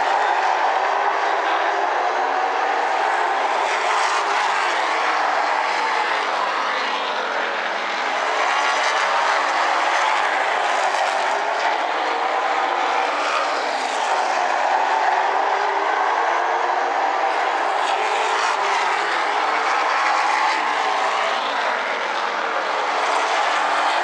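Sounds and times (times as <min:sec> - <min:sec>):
racing engines droning: 0:00.0 - 0:24.0.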